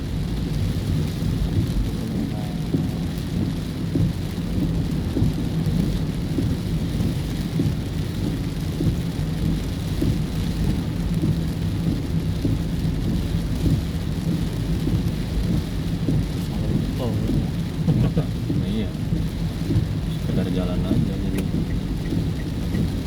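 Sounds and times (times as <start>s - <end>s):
car engine rumbling: 0.0s - 23.0s
heavy rain on a car: 0.0s - 23.0s.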